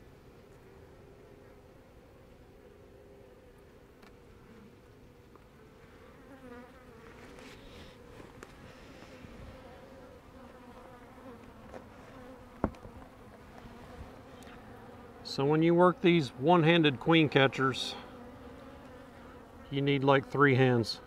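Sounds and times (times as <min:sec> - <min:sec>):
bees buzzing: 0:00.6 - 0:21.0.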